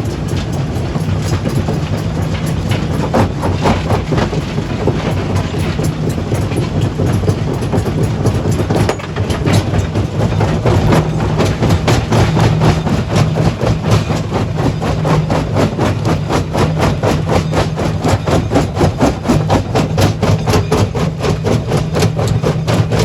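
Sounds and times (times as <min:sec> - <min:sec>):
stone crusher machine hum: 0:00.0 - 0:23.0.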